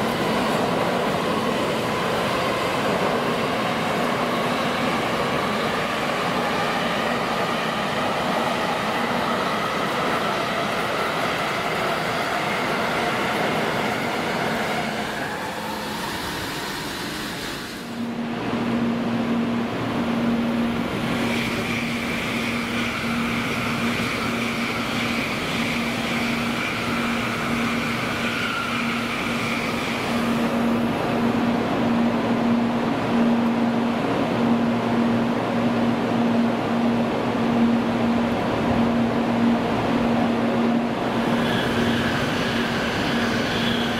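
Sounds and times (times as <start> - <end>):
bullet trains rushing past: 0.0 - 43.9.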